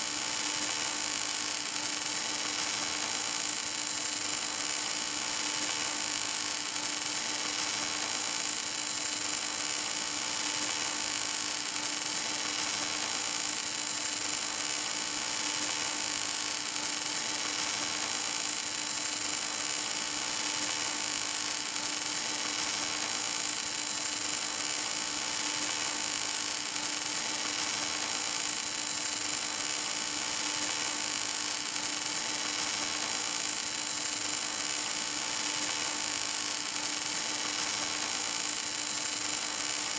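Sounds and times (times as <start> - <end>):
welding arc hissing and humming: 0.0 - 39.9.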